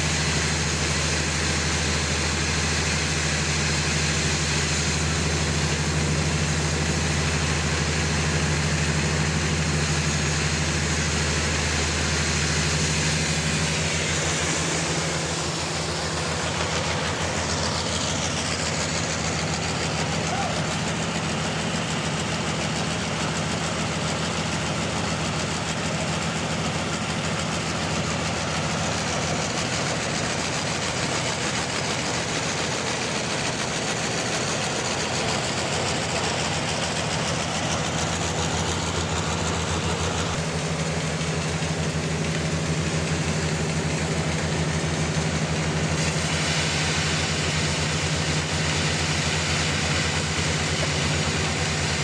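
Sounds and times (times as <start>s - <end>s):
saw hissing through log: 0.0s - 52.0s
sawmill engine hum: 0.0s - 52.0s.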